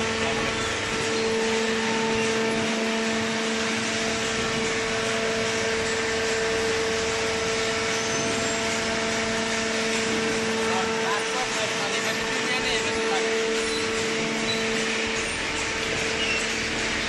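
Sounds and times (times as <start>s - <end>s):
hydraulic pump motor humming: 0.0s - 17.0s.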